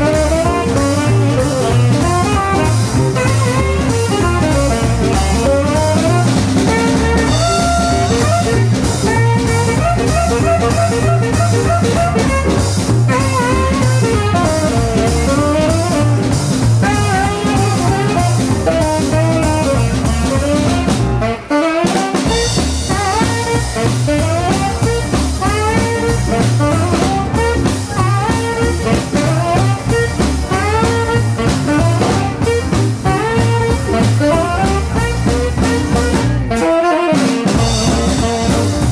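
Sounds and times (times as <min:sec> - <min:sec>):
drum kit: 0:00.0 - 0:38.9
piano: 0:00.0 - 0:38.9
tenor saxophone solo: 0:00.0 - 0:38.9
upright bass: 0:00.0 - 0:38.9.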